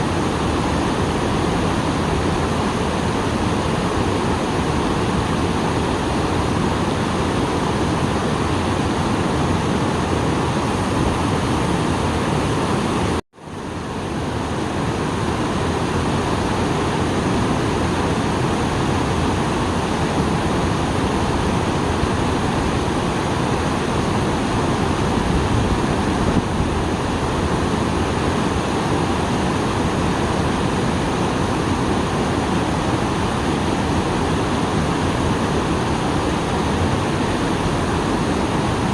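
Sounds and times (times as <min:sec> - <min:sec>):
small waterfall rushing: 0:00.0 - 0:38.9.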